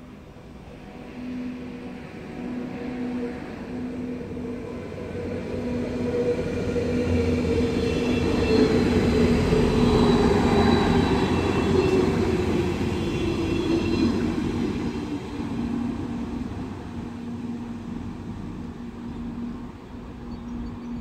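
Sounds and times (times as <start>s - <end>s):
passenger train passing: 0.0s - 21.0s.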